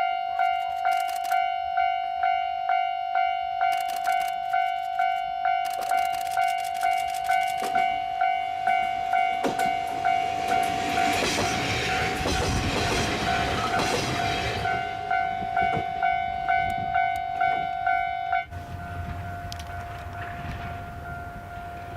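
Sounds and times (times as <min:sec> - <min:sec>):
level crossing warning bell: 0:00.0 - 0:12.2, 0:13.2 - 0:21.9
diesel railcar passing: 0:00.0 - 0:21.9.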